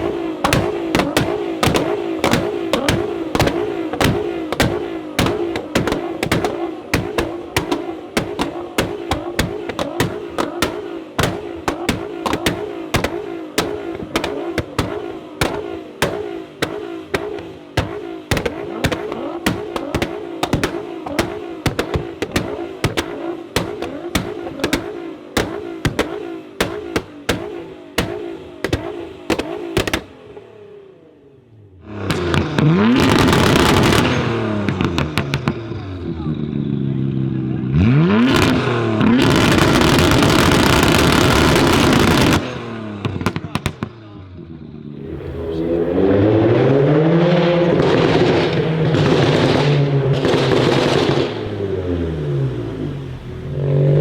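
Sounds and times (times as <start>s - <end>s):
exhaust pops and cracks: 0.0s - 30.4s, 31.9s - 36.2s, 37.9s - 46.9s, 47.6s - 51.6s
car engine revving: 0.0s - 54.0s.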